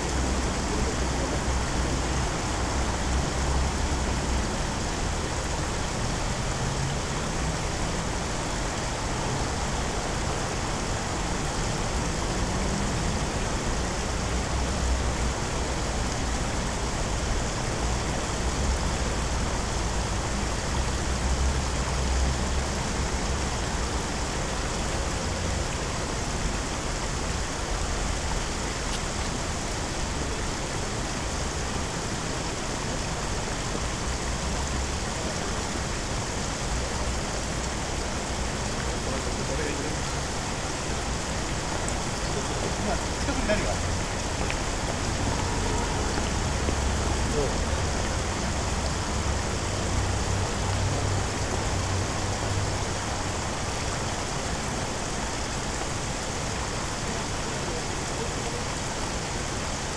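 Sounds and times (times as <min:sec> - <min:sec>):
rushing outdoor noise: 0:00.0 - 0:59.9.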